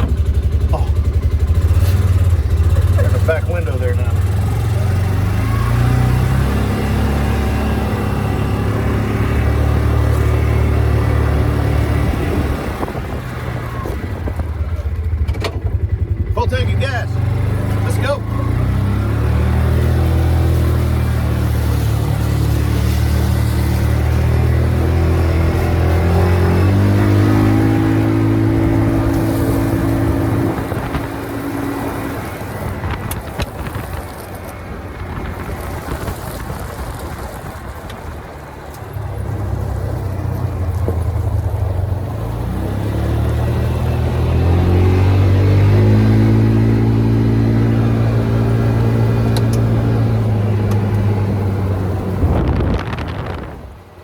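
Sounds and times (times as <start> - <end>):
vehicle engine driving off: 0.0 - 54.0.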